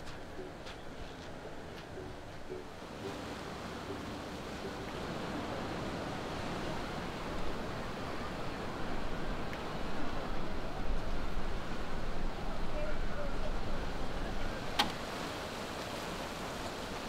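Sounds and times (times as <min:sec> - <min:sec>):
sea waves and surf: 0:00.0 - 0:17.0.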